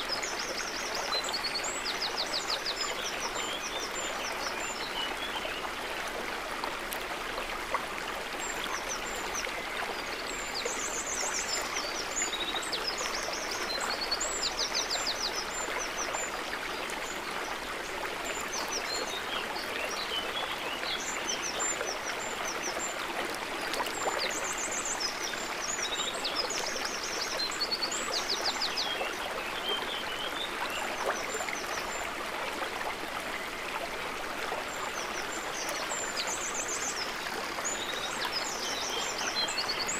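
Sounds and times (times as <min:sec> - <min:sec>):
lake water babbling: 0:00.0 - 0:39.9.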